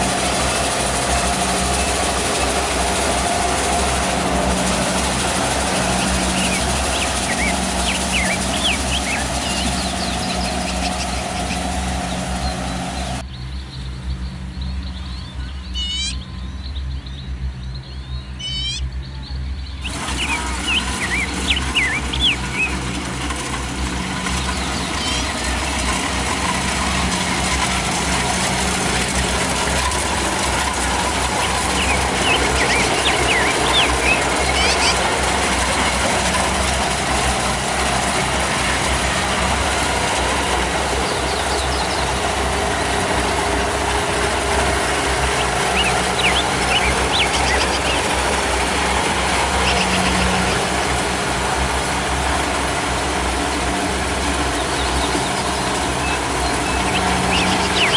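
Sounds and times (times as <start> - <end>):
combine harvester diesel engine: 0.0 - 57.9.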